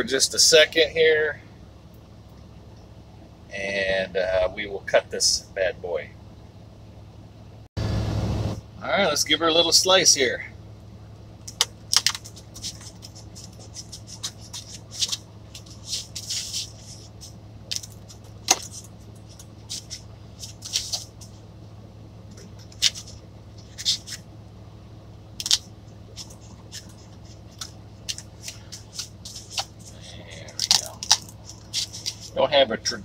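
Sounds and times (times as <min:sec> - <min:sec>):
low hum: 0:00.0 - 0:33.0.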